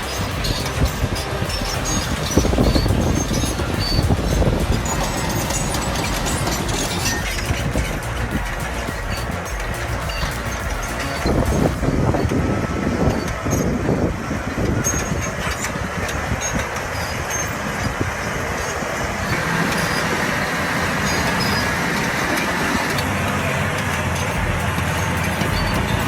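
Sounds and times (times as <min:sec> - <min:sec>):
diesel earth-moving machine running: 0:00.0 - 0:26.0.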